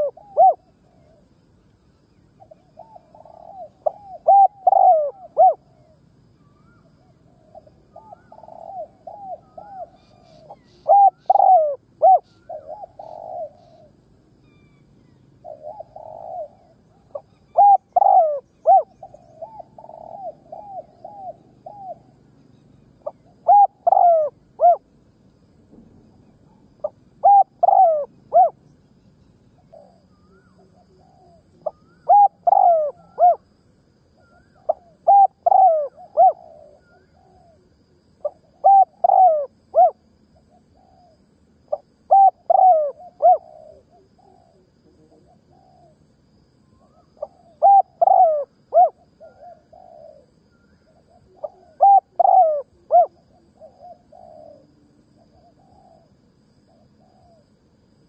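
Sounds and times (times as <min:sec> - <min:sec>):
dove cooing: 0:00.0 - 0:01.3, 0:02.4 - 0:14.8, 0:15.4 - 0:22.4, 0:23.0 - 0:24.9, 0:26.3 - 0:28.7, 0:29.5 - 0:33.4, 0:34.2 - 0:46.1, 0:46.7 - 0:57.6.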